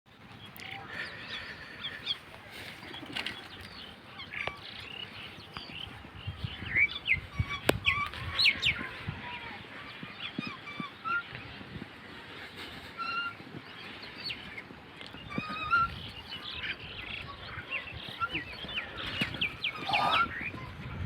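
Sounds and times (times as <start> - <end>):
birds chirping and calling: 0.1 - 21.0.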